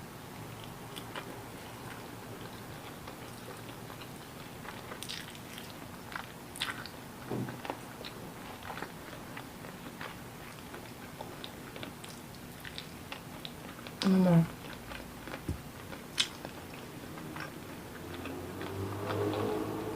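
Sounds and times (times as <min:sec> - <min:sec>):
person chewing food: 0:00.5 - 0:19.9.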